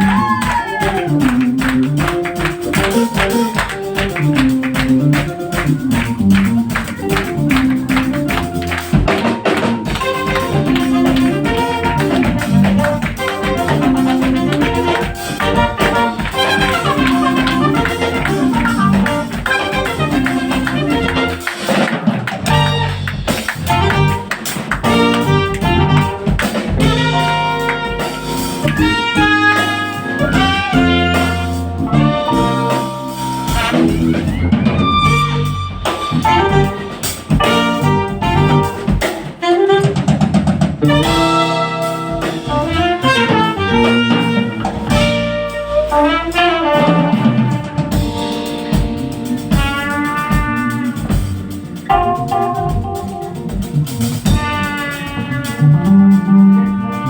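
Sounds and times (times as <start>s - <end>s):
drum kit: 0.0s - 57.0s
jazz horn melody: 0.0s - 57.0s.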